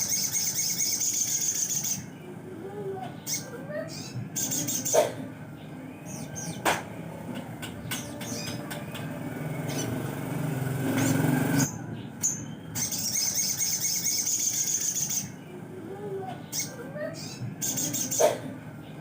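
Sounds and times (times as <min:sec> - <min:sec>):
songbird chirping and trilling: 0:00.0 - 0:19.0.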